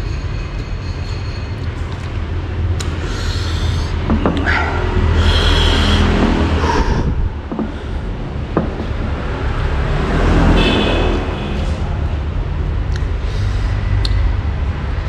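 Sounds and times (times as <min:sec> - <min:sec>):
passing motor vehicles rumbling: 0:00.0 - 0:15.0.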